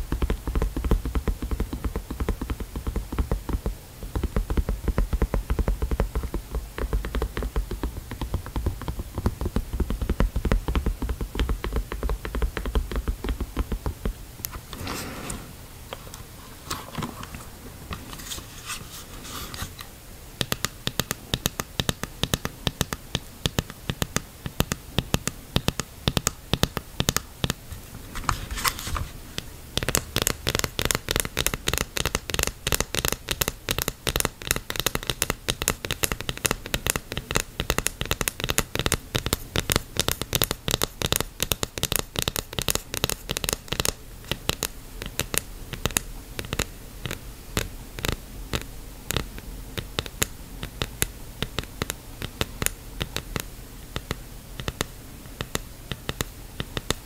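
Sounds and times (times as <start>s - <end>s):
fingernails tapping on mask: 0.0s - 14.2s, 20.4s - 27.6s, 29.4s - 57.0s.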